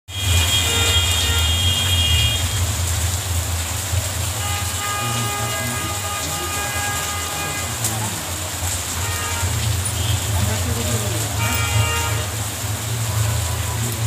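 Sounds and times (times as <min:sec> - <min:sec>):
rain on wet street: 0:00.1 - 0:14.0.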